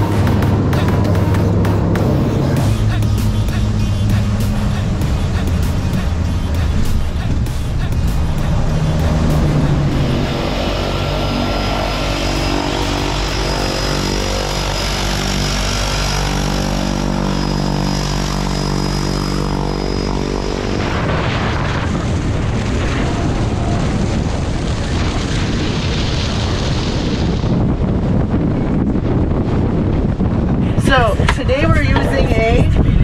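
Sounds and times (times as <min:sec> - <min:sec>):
propeller airplane engines droning: 0:00.0 - 0:33.0
speeding boat wind and water rush: 0:00.0 - 0:33.0.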